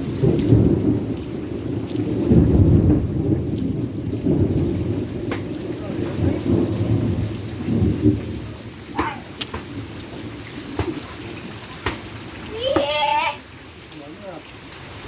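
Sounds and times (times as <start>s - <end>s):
heavy rain falling: 0.0s - 15.0s
sharp ticks of raindrops: 0.0s - 15.0s.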